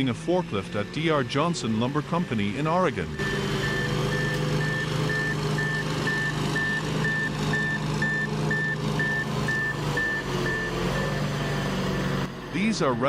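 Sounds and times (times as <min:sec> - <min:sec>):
forklift engine running: 0:00.0 - 0:13.0
forklift reversing alarm beeping: 0:00.3 - 0:13.0.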